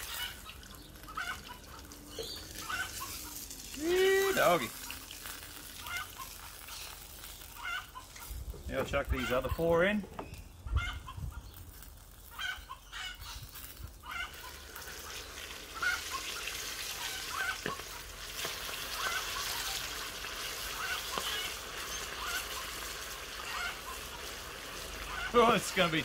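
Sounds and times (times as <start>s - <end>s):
bird calls: 0.0s - 3.6s, 4.2s - 26.0s
hot oil sizzling: 0.0s - 9.8s, 11.4s - 26.0s.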